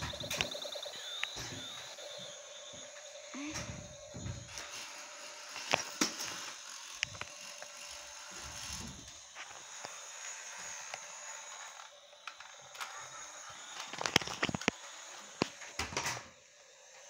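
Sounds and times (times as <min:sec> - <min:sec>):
toy car motor whirring: 0:00.0 - 0:17.0.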